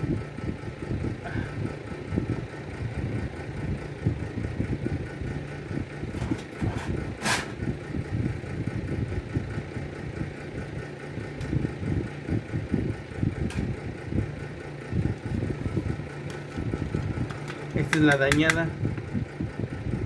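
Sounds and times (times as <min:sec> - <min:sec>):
fluttering low rumble: 0:00.0 - 0:17.9.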